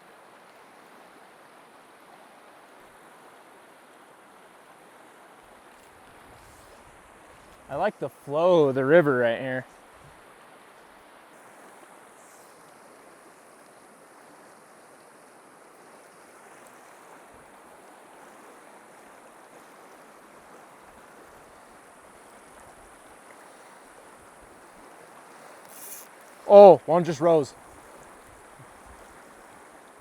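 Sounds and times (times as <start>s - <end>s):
river water flowing over rocks: 0.0s - 30.0s.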